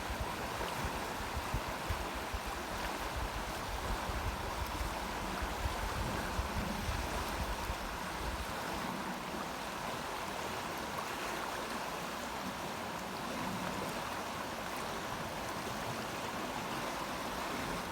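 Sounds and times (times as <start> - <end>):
river flowing: 0.0 - 17.9.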